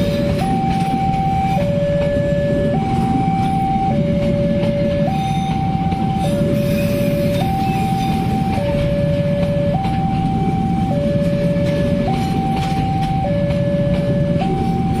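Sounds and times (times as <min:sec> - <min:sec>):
train coaches rumbling on rails: 0:00.0 - 0:15.0
two-tone level crossing alarm: 0:00.0 - 0:15.0.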